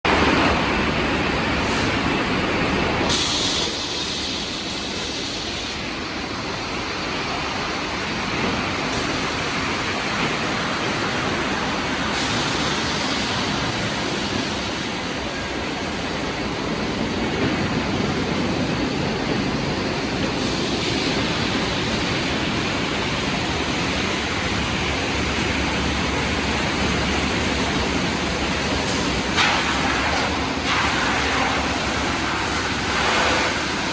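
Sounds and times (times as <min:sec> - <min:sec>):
sanding machines and conveyors: 0:06.6 - 0:33.9.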